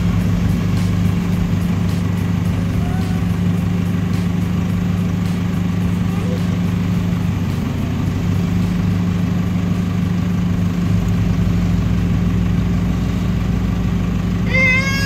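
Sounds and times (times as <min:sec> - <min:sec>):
car engine droning: 0:00.0 - 0:15.0
road rumble: 0:00.0 - 0:15.0.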